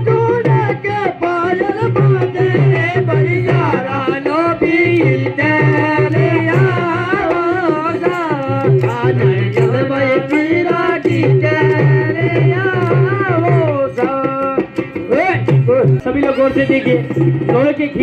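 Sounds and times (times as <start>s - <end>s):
hand drum rhythm: 0.0s - 18.0s.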